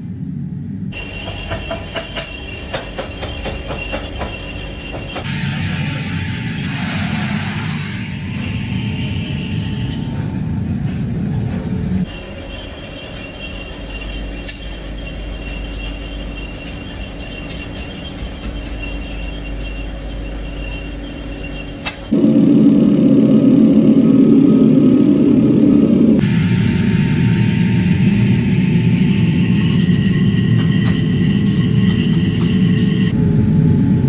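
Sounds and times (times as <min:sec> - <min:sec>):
factory machinery running: 0:00.0 - 0:34.0.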